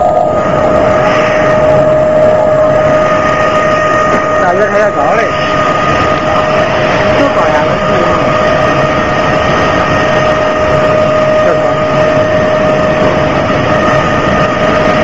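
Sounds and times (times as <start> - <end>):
constant machine whine: 0.0 - 15.0.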